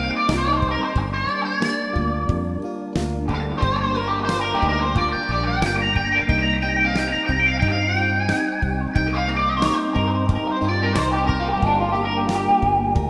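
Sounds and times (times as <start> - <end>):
electric guitar blues-rock melody: 0.0 - 13.0
low held notes: 0.0 - 13.0.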